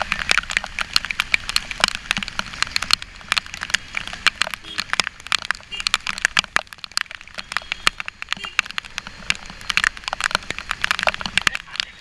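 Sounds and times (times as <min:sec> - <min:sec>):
raindrops ticking on camera housing: 0:00.0 - 0:12.0.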